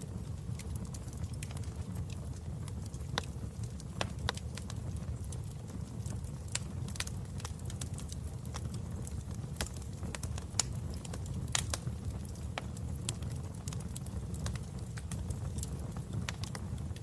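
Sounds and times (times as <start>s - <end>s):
low rumble of flame: 0.0s - 17.0s
wood fire crackling: 0.0s - 17.0s.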